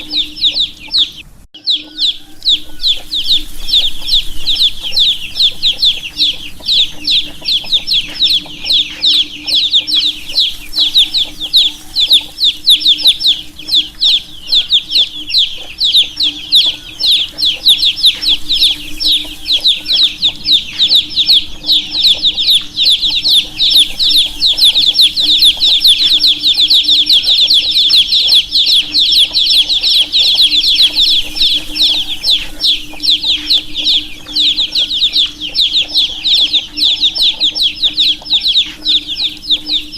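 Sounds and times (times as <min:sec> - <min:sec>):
baby chicks peeping: 0:00.0 - 0:39.9
faint low hum: 0:00.0 - 0:39.9.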